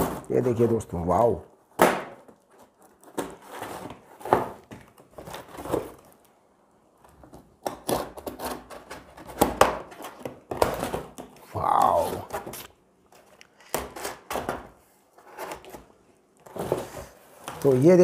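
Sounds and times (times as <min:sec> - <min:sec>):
paper and cardboard rustling: 0:02.2 - 0:06.2, 0:07.1 - 0:18.0.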